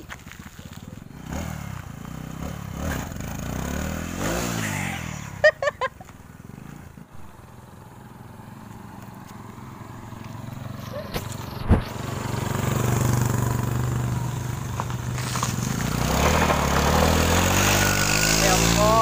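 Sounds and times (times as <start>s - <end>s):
small motorcycle engine passing: 0.3s - 19.0s.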